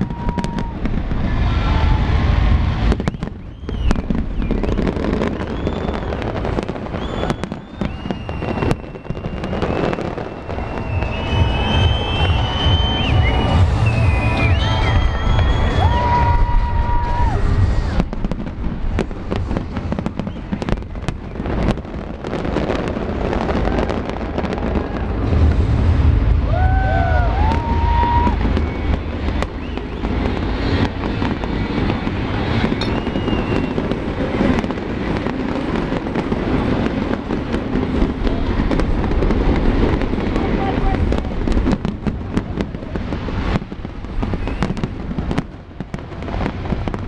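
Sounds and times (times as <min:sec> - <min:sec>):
fireworks bangs: 0:00.0 - 0:47.0
low rumble of explosions: 0:00.0 - 0:47.0.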